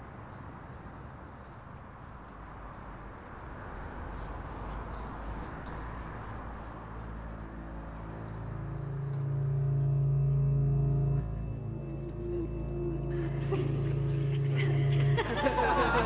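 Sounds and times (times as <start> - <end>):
low hum: 0.0 - 16.0
low sustained music score: 0.0 - 16.0.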